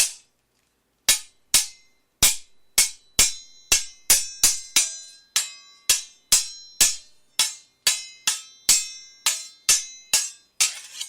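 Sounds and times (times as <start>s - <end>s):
swords clashing: 0.0s - 0.3s, 1.1s - 11.0s.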